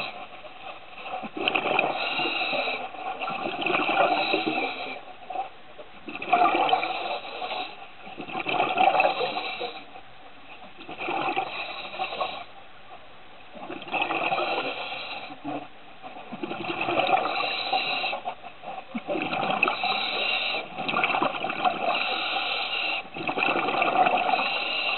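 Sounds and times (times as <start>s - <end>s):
exhaled bubbles underwater: 1.1s - 5.0s, 5.9s - 9.8s, 10.6s - 12.5s, 13.5s - 24.9s.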